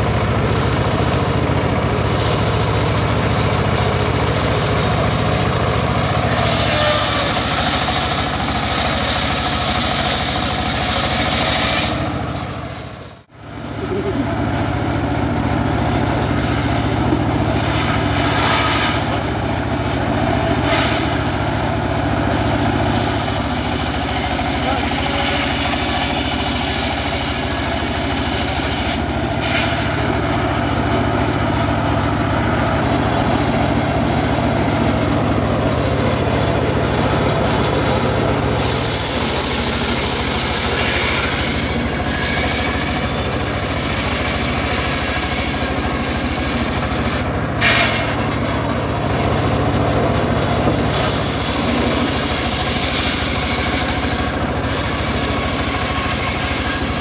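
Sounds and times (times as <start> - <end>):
circular saw cutting log: 4.9 - 57.0.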